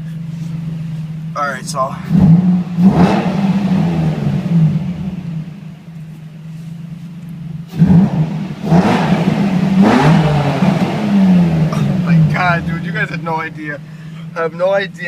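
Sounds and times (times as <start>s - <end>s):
loud car engine idling and revving: 0.0s - 15.0s.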